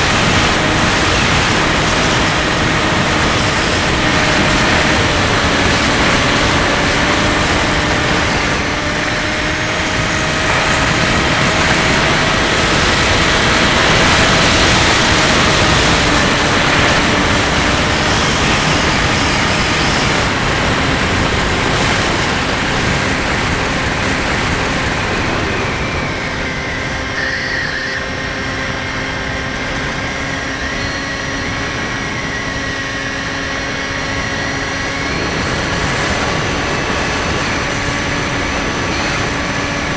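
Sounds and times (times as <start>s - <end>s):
model plane motor whine: 0.0s - 39.9s
wind noise: 0.0s - 39.9s.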